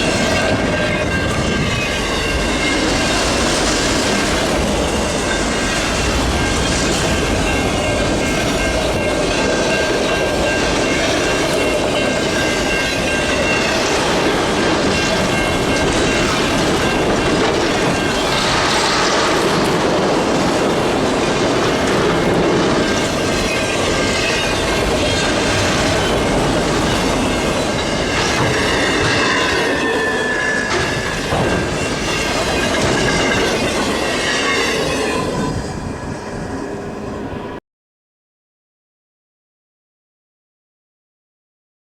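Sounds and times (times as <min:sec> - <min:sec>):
freight train rumbling and clattering: 0:00.0 - 0:37.6.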